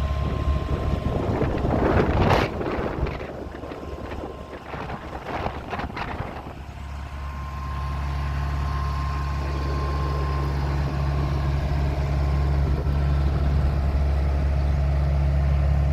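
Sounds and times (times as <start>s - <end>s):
diesel engine droning: 0.0s - 15.9s.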